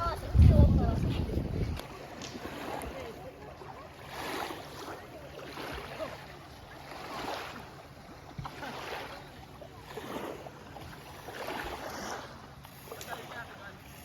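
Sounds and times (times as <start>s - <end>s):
small waves washing onto beach: 0.0s - 14.0s.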